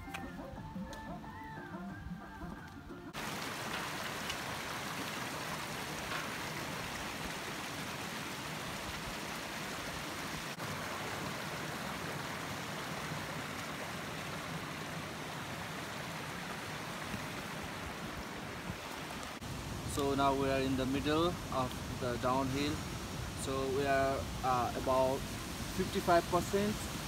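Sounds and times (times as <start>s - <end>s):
stream rushing: 2.8s - 27.0s.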